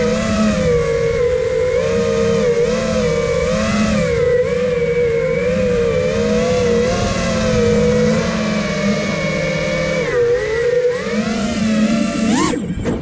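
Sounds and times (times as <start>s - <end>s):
quadcopter propellers whining: 0.0s - 13.0s.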